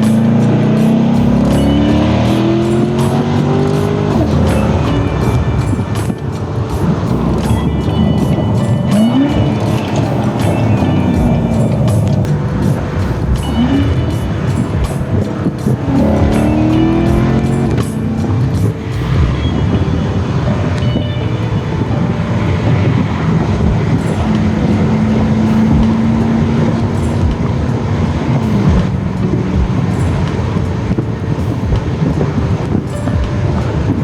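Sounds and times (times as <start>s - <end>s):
car engine drone: 0.0s - 34.0s
road noise: 0.0s - 34.0s
wind noise: 0.0s - 34.0s.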